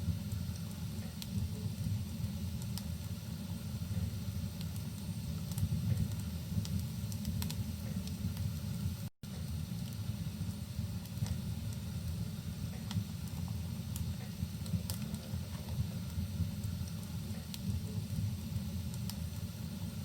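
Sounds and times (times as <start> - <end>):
fire crackling and rumbling: 0.0 - 20.0.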